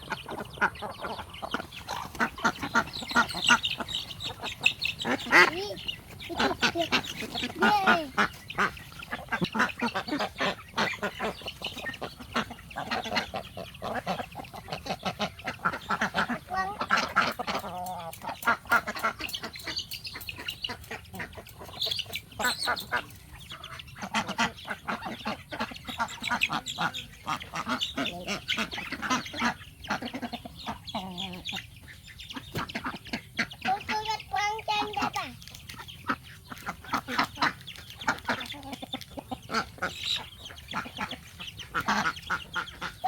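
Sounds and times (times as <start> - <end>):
ducks quacking: 0.0 - 43.0.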